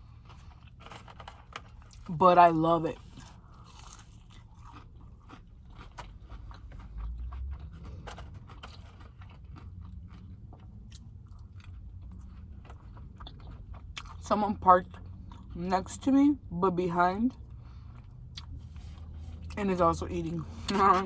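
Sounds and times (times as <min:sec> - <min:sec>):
chewing crispy fried food: 0:00.0 - 0:21.0.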